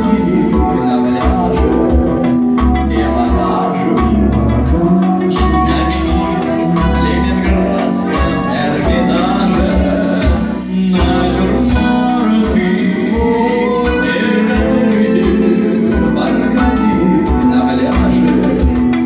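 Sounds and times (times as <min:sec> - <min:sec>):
bass guitar: 0:00.0 - 0:19.0
drums: 0:00.0 - 0:19.0
electric guitar: 0:00.0 - 0:19.0
keyboard: 0:00.0 - 0:19.0
man singing: 0:00.0 - 0:19.0.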